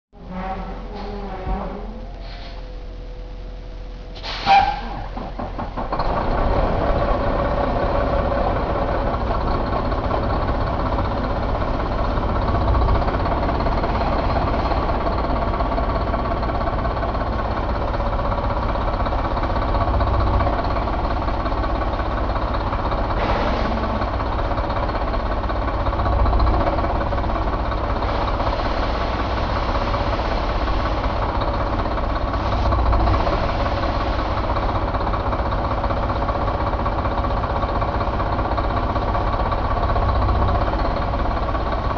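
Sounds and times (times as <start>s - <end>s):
diesel engine idling: 0.2s - 41.9s.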